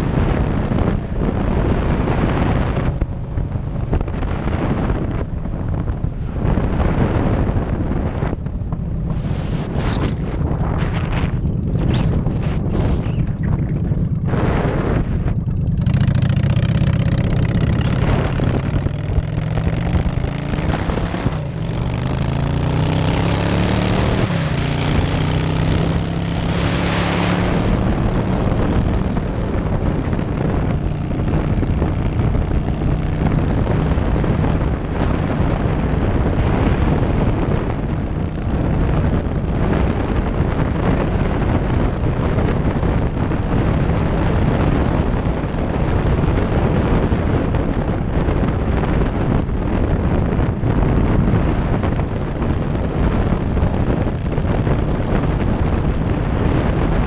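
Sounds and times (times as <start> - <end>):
motorcycle engine accelerating: 0.0 - 57.0
wind noise on microphone: 0.0 - 57.0.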